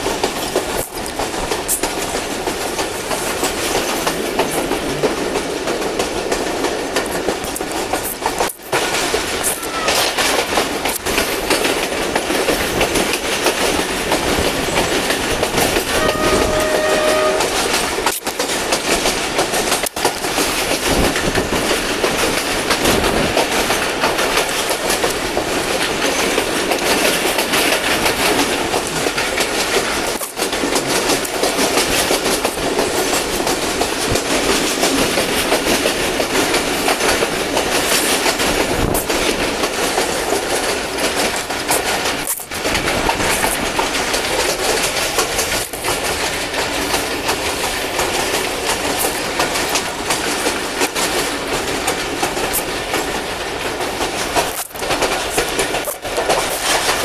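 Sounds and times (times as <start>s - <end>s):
train wheel and rail noise: 0.0s - 57.0s
wheels clickety-clack: 0.0s - 57.0s.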